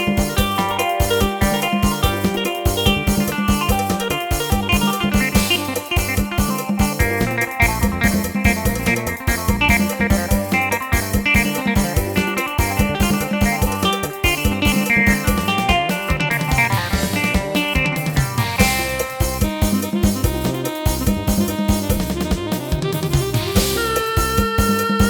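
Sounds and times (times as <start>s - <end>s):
fast rhythm accompaniment: 0.0s - 25.0s
keyboard plucked-string melody: 0.0s - 25.0s.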